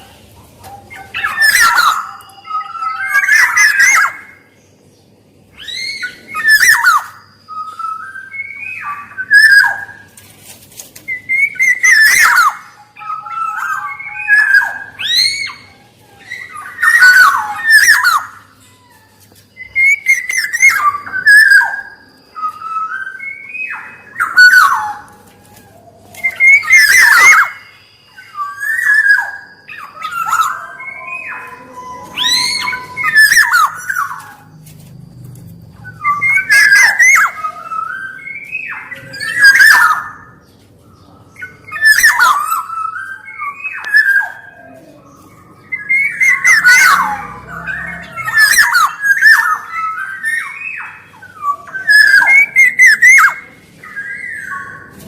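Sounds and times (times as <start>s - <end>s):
bird calling fluty whistles: 0.9s - 4.6s, 5.5s - 10.2s, 11.1s - 34.6s, 35.7s - 55.0s.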